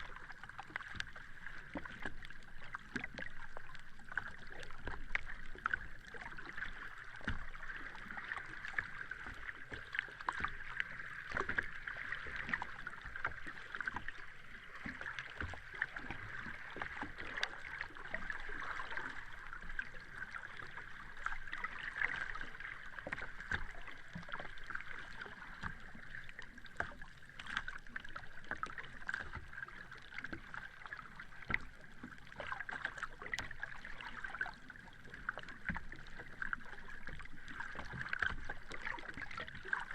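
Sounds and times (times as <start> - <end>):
sea water washing: 0.0 - 39.9
small crackling splashes: 0.0 - 39.9.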